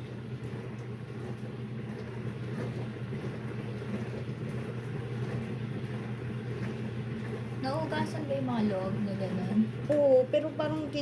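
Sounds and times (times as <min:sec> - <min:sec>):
dishwasher motor hum: 0:00.0 - 0:11.0.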